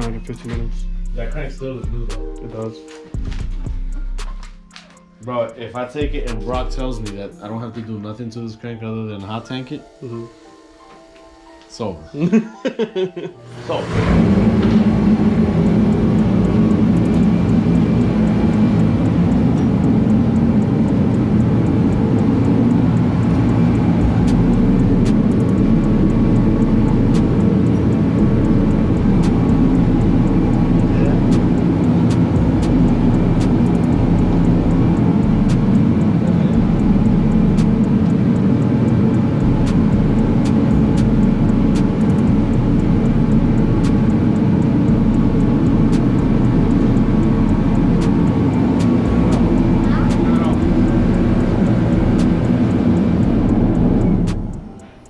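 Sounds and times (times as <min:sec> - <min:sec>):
engine running steadily: 0:00.0 - 0:04.6, 0:06.0 - 0:07.3, 0:13.4 - 0:55.0.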